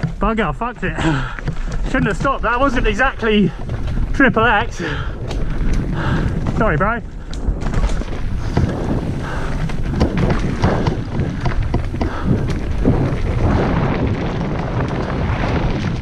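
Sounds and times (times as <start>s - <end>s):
bike knocking and rattling: 0.0s - 16.0s
bike tyres rumbling: 0.0s - 16.0s
wind buffeting microphone: 0.0s - 16.0s.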